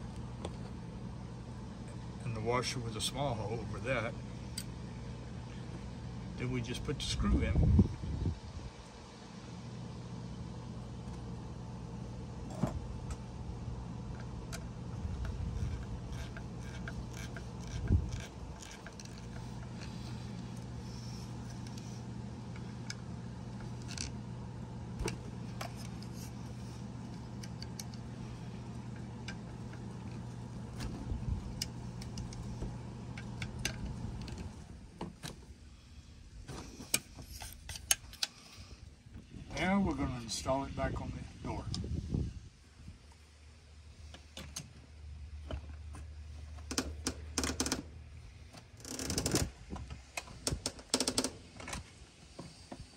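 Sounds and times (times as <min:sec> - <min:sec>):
low engine-like hum: 0:00.0 - 0:50.7.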